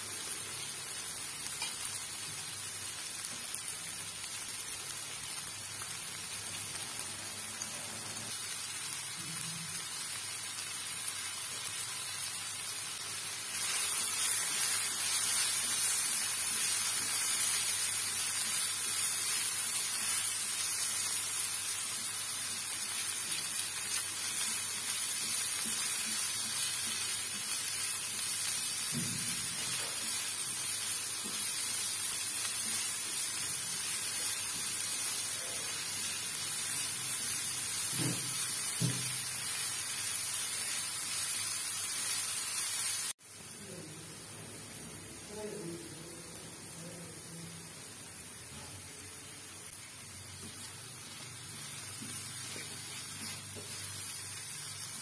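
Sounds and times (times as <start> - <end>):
vegetables sizzling in a frying pan: 0.0 - 55.0.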